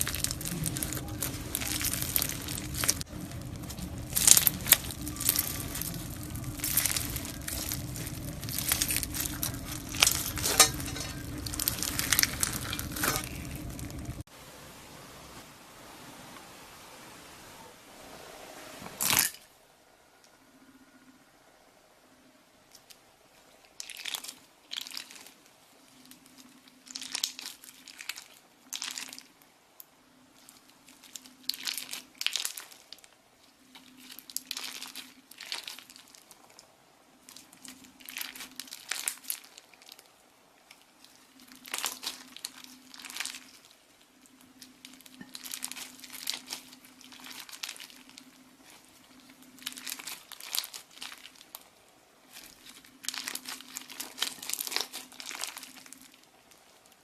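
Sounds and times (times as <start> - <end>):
crunchy slime crackling: 0.0 - 14.3, 22.7 - 29.4, 30.3 - 57.0.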